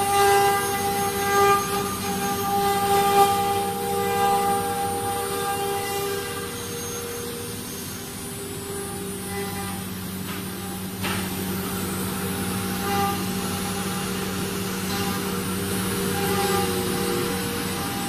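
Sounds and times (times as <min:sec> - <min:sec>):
cnc router humming and whining: 0:00.0 - 0:18.0.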